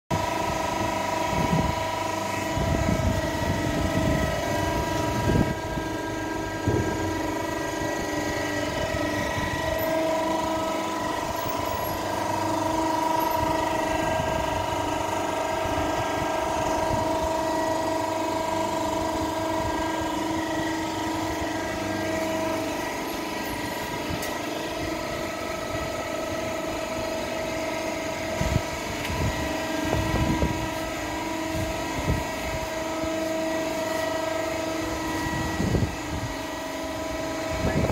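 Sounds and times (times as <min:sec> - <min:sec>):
baler pump and motor humming: 0:00.1 - 0:37.9.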